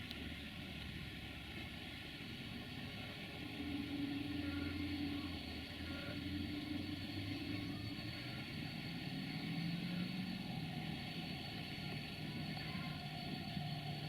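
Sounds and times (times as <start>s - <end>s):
train engine humming: 0.0s - 14.0s.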